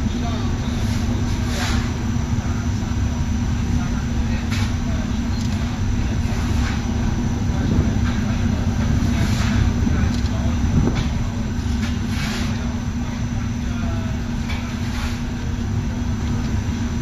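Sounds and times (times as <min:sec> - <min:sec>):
industrial machinery rumble and hum: 0:00.0 - 0:17.0.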